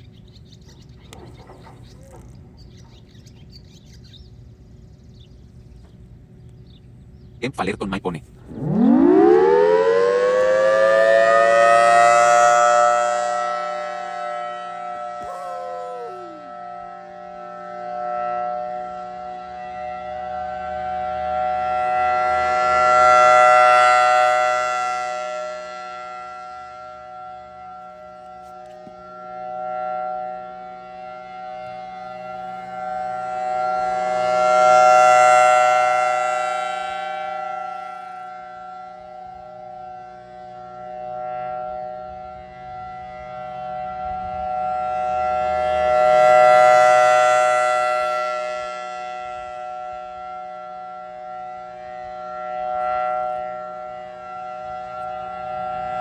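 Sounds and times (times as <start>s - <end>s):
warning siren steady wail: 0.0s - 3.6s, 8.4s - 56.0s.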